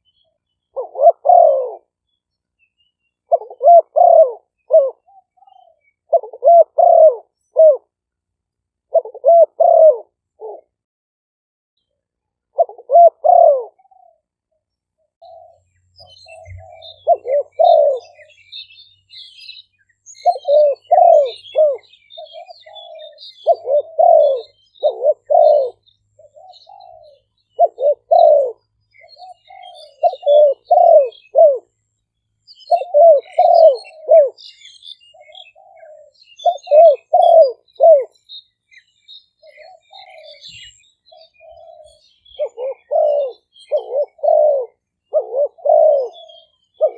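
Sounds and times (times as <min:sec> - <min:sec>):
dove cooing: 0:00.0 - 0:02.0, 0:03.2 - 0:08.0, 0:08.9 - 0:10.8, 0:12.5 - 0:14.3, 0:15.2 - 0:31.8, 0:32.5 - 0:38.3, 0:39.4 - 0:46.9
small birds chirping: 0:00.0 - 0:10.8, 0:11.8 - 0:46.9.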